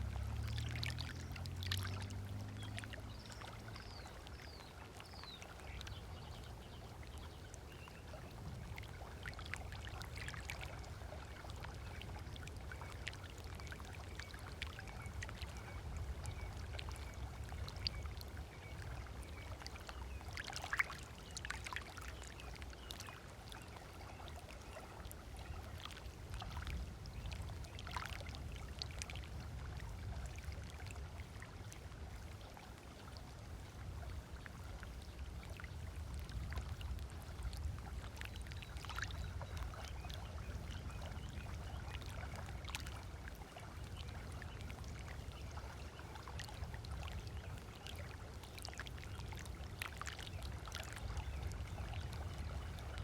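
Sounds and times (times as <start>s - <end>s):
low steady rumble: 0.0s - 20.4s, 21.1s - 53.0s
small waves lapping on shore: 0.0s - 53.0s.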